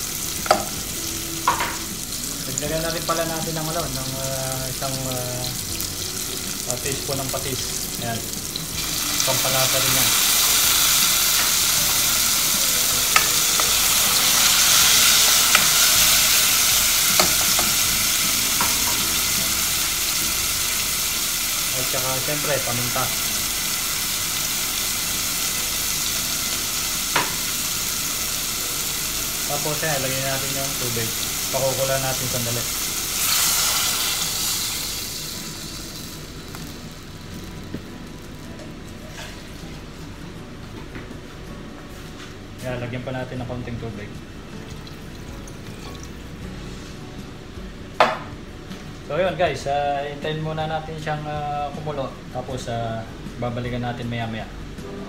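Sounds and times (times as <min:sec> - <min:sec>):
vegetables sizzling in a pot: 0:00.0 - 0:40.7, 0:42.2 - 0:55.0.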